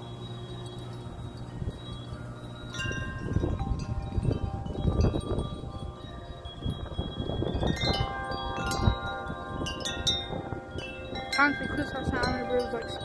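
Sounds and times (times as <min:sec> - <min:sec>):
wind chime clanging: 0:00.0 - 0:13.0
wind rumble on microphone: 0:00.8 - 0:13.0.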